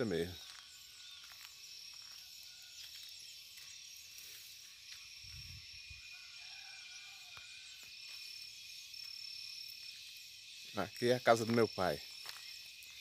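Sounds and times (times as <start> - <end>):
high-pitched insect drone: 0.0 - 13.0
insect chirps: 0.0 - 13.0.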